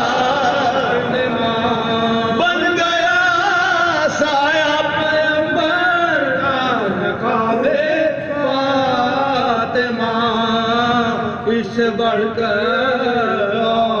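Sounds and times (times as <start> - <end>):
men singing unaccompanied lament: 0.0 - 14.0.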